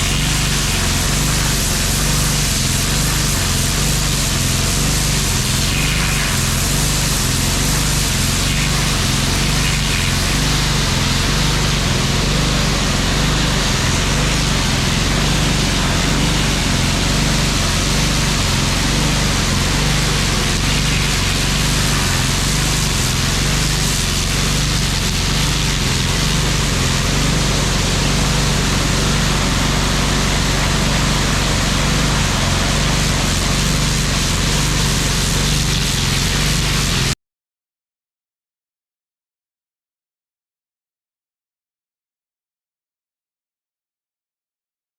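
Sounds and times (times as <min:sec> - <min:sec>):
small engine humming: 0:00.0 - 0:37.0
high-pressure water jet hissing: 0:00.0 - 0:37.2.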